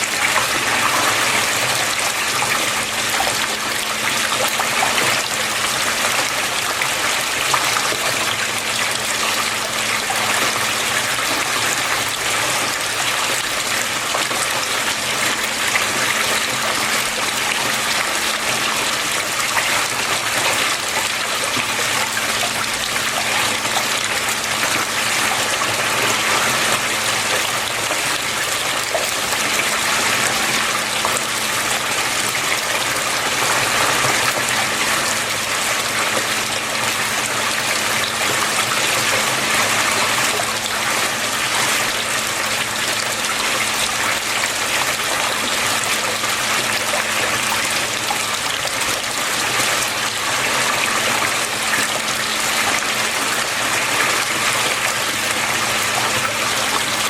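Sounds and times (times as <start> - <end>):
water flowing and splashing: 0.0 - 57.0.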